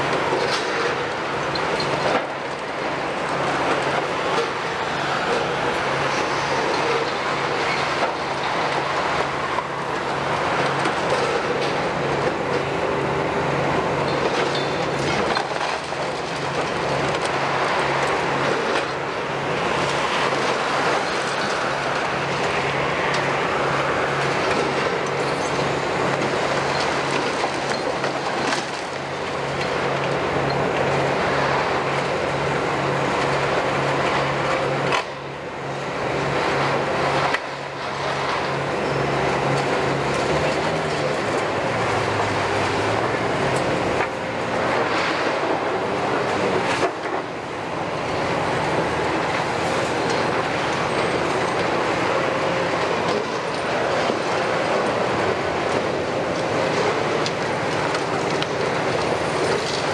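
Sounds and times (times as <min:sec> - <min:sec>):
excavator diesel engine under load: 0:00.0 - 0:59.9.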